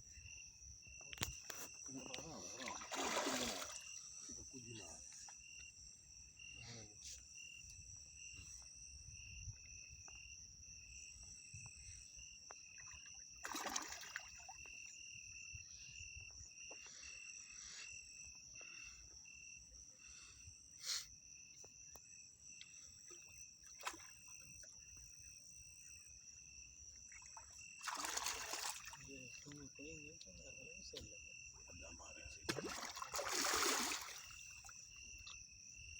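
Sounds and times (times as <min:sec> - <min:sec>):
pulsing insect chirp: 0:00.0 - 0:35.9.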